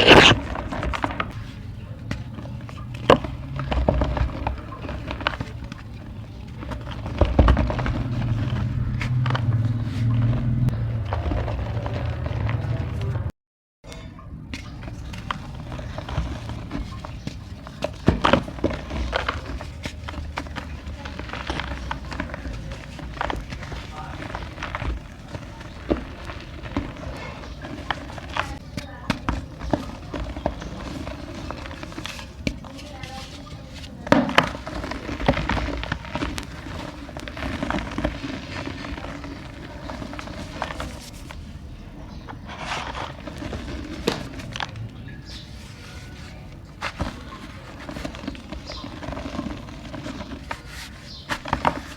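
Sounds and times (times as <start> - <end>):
dry clay pots crunching: 0.0 - 51.9.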